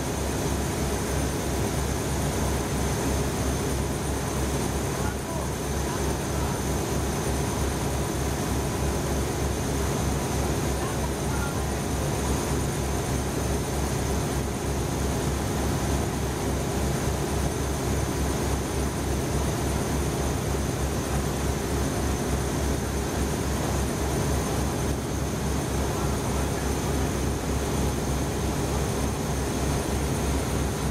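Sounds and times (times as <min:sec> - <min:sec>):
boat engine throbbing: 0:00.2 - 0:30.9.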